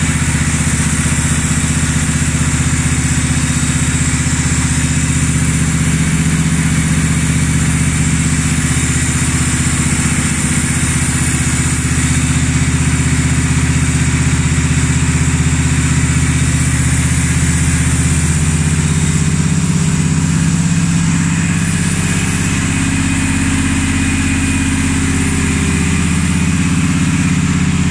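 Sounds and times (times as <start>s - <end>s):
riding mower engine running: 0.0s - 27.9s.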